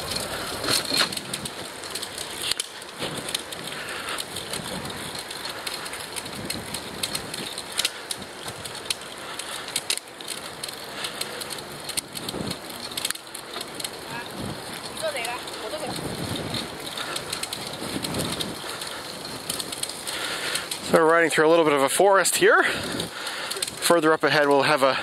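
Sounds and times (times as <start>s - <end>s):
bicycle tyre noise: 0.0s - 25.0s
leaves rustling and crackling: 0.0s - 25.0s.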